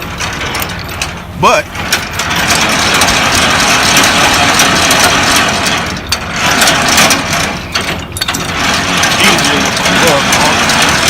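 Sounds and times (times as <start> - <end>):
landing gear crank grinding: 0.0 - 11.0
truck engine idling: 0.0 - 11.0.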